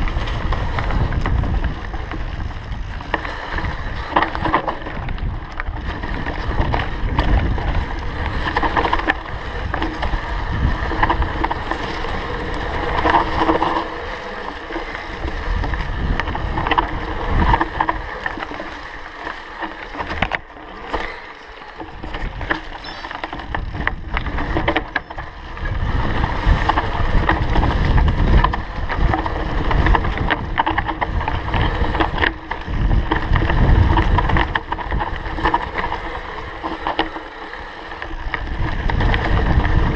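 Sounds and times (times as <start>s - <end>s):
bike clattering over bumps: 0.0s - 39.9s
bike tyre rumble on dirt: 0.0s - 39.9s
wind on microphone: 0.0s - 39.9s.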